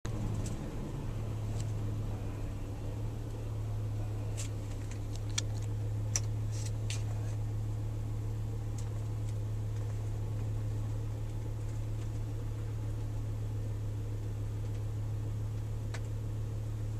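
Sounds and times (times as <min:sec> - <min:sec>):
car interior hum: 0:00.1 - 0:16.9.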